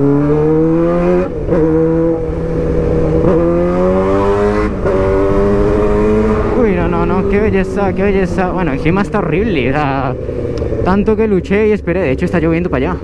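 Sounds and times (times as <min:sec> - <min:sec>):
motorcycle engine accelerating: 0:00.0 - 0:12.2.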